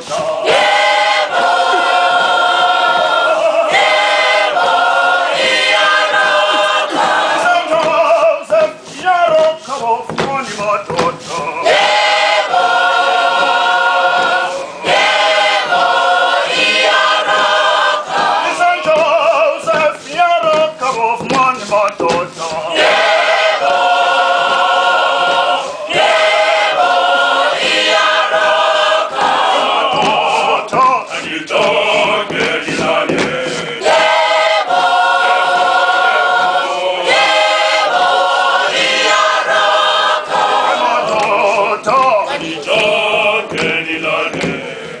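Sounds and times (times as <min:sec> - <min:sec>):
children's choir singing: 0:00.0 - 0:09.4, 0:10.7 - 0:20.9, 0:21.8 - 0:45.0.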